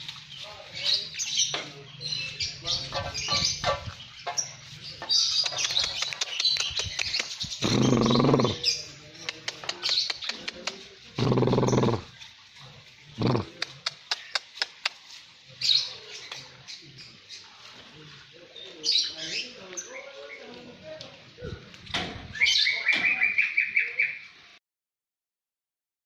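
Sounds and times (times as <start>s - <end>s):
lovebirds chirping and twittering: 0.0s - 24.5s.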